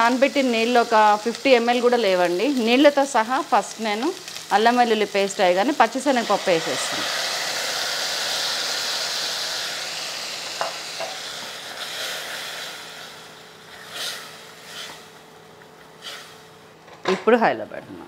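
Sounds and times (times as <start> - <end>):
loud sizzle in hot oil: 0.0 - 16.8.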